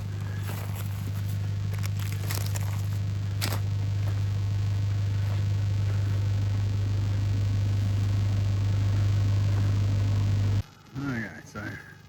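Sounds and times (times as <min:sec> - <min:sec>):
loud low hum with hiss: 0:00.0 - 0:12.0.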